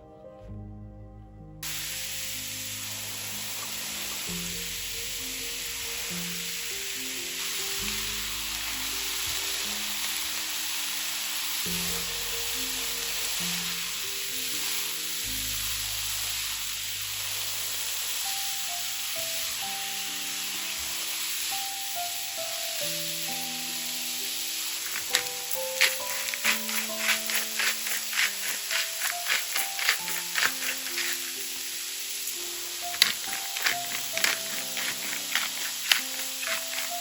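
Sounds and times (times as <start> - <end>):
background music: 0.0 - 16.9, 18.2 - 37.0
food sizzling in a pan: 1.6 - 37.0.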